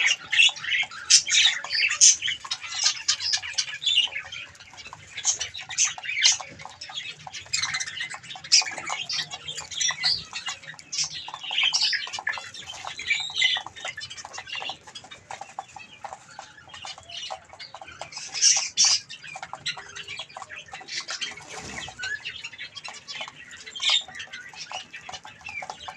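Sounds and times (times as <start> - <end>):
birds pecking seed clicks: 0.0 - 25.9
small birds chirping and calling: 0.0 - 25.9.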